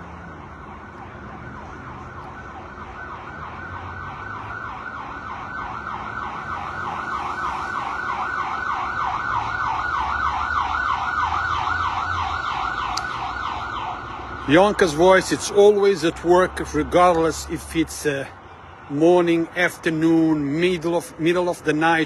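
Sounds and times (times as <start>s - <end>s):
emergency siren yelping: 0.0s - 22.0s
low traffic rumble: 0.0s - 22.0s.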